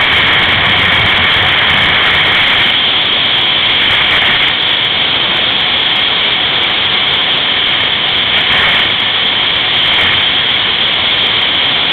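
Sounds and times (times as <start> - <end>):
snowmobile engine running: 0.0 - 11.9
wind rushing over microphone: 0.0 - 11.9.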